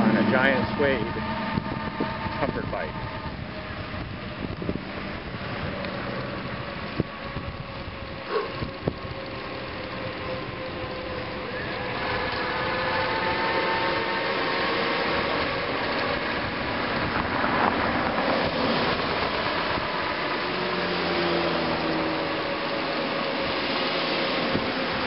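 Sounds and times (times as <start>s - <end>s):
electric hub motor whine: 0.0s - 25.0s
wind and road noise: 0.0s - 25.0s.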